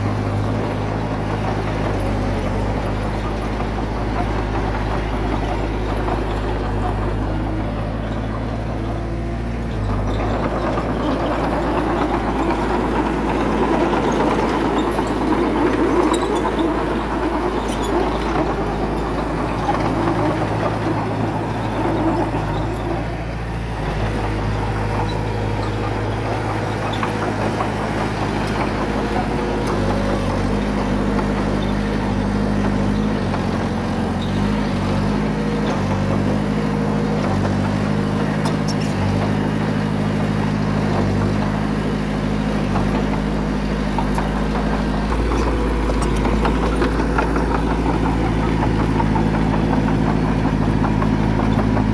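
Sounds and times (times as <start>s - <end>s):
bulldozer diesel engine working: 0.0s - 51.9s.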